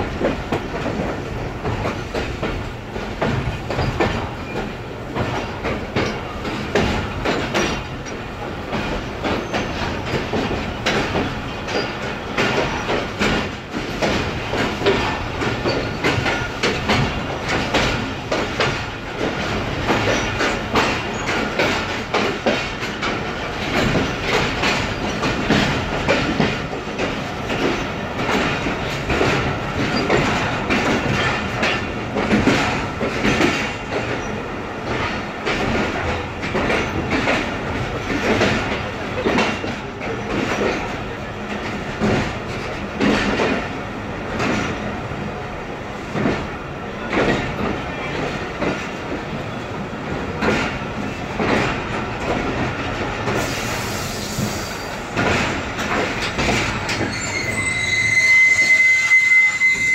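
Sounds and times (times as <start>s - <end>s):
train running rumble: 0.0s - 58.3s
train wheels clacking on rail joints: 0.0s - 58.8s.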